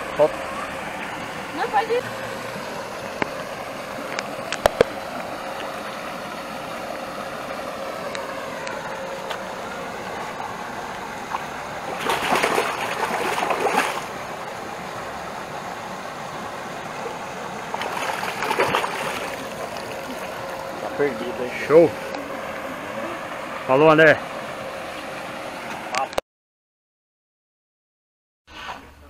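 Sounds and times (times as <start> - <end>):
fish splashing in water: 0.2 - 23.6.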